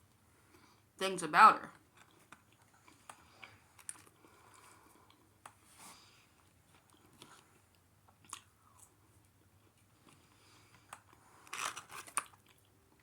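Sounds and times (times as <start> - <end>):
person chewing crunchy food: 1.8 - 13.0.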